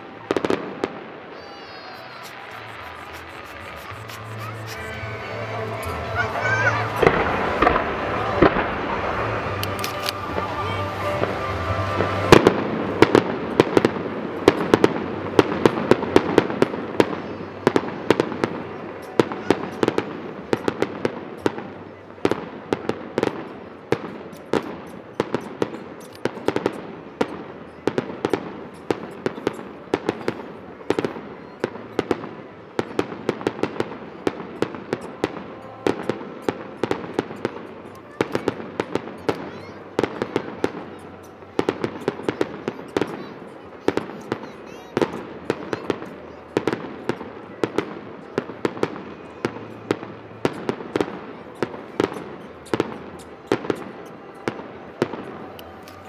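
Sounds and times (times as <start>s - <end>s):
fireworks bursting in a barrage: 0.0s - 56.0s.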